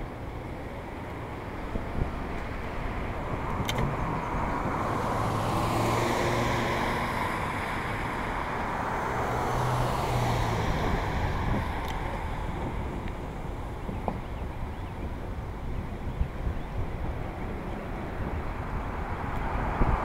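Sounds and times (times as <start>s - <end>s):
background traffic rush: 0.0s - 20.0s
vehicles passing: 0.0s - 20.0s.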